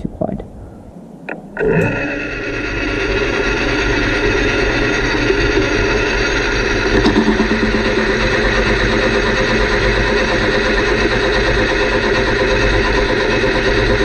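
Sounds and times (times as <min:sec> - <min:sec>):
metal lathe motor humming: 0:01.3 - 0:14.0.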